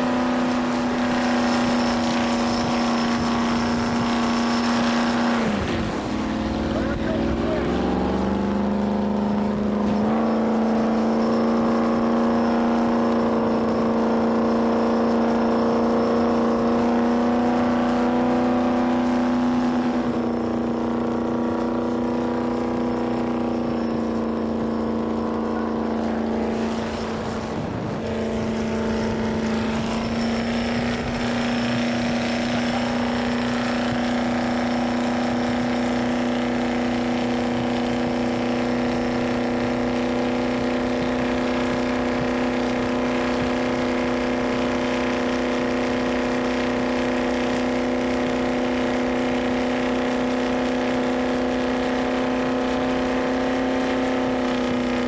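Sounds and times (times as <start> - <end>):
jet boat engine: 0.0 - 55.0.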